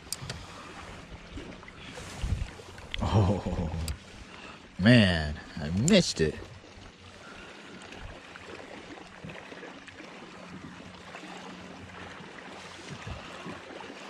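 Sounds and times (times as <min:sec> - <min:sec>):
water lapping against a hull: 0:00.0 - 0:14.0.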